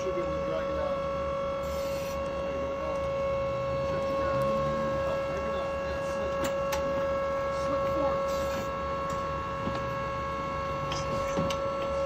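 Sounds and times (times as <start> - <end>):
forklift whine: 0.0 - 12.0
low hum: 0.0 - 12.0.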